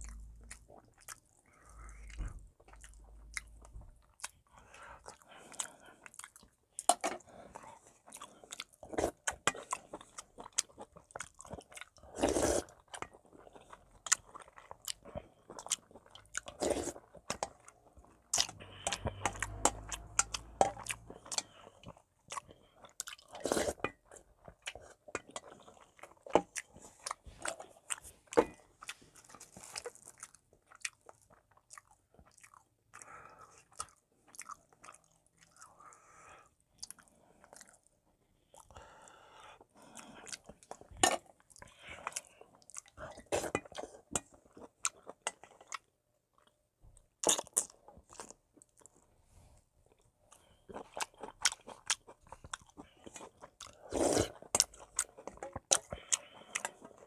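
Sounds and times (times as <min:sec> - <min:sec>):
wet chewing and smacking: 0:00.0 - 0:49.2, 0:49.8 - 0:57.0.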